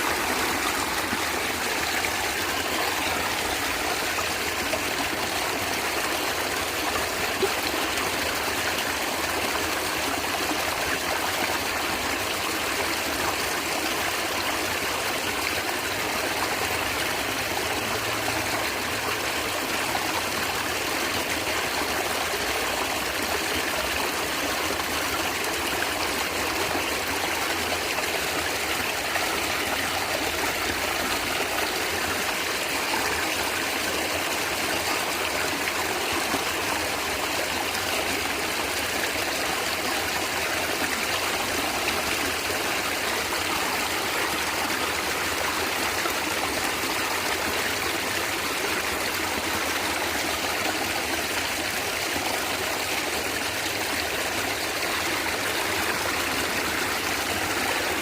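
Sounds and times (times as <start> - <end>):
stream gurgling over rocks: 0.0 - 58.0.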